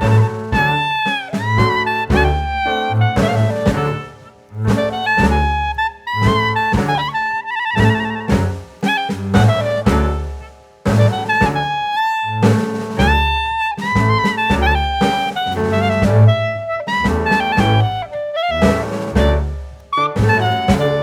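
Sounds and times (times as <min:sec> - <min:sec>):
double bass: 0:00.0 - 0:21.0
drum kit: 0:00.0 - 0:21.0
saxophone melody: 0:00.0 - 0:21.0.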